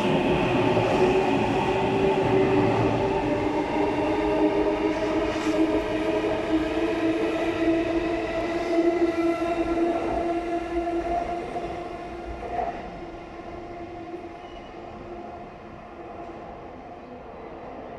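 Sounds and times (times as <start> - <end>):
electric train whine: 0.0 - 15.2
rail noise: 0.0 - 17.8.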